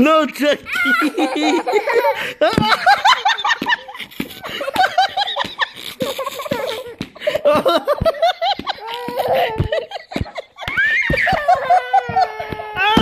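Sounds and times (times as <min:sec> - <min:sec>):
person giggling: 0:00.6 - 0:13.0.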